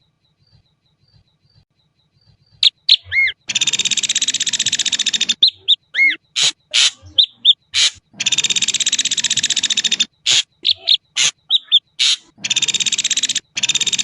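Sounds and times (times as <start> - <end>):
bird buzzing rattle: 0.4 - 5.5, 6.3 - 7.1, 7.7 - 14.0
bird whistles and sharp notes: 2.6 - 14.0.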